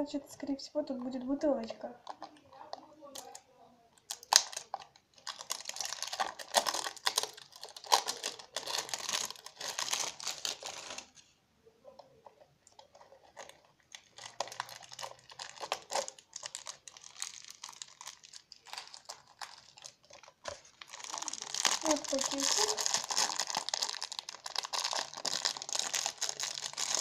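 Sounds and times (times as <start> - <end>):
wrapping crinkling and tearing: 0.9 - 3.4, 4.0 - 11.3, 12.2 - 27.0.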